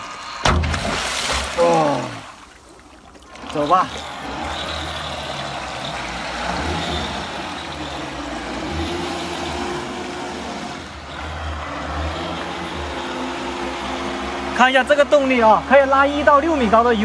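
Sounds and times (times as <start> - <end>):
boat churning water: 0.0 - 17.0.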